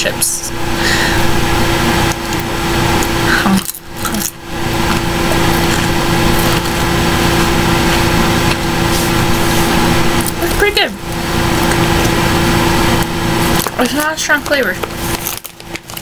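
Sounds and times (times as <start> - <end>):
steady hum and hiss: 0.0 - 16.0
potato chip crunching: 1.9 - 16.0.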